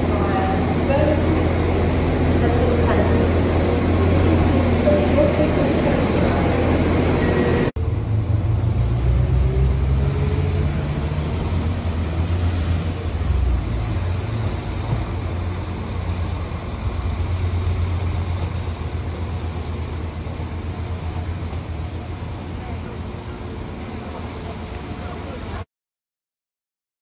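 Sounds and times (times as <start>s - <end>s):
diesel train engine rumble: 0.0s - 25.6s.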